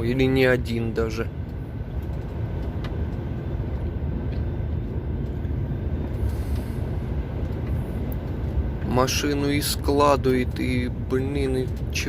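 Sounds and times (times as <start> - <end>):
road rumble: 0.0 - 12.0
truck engine drone: 0.0 - 12.0.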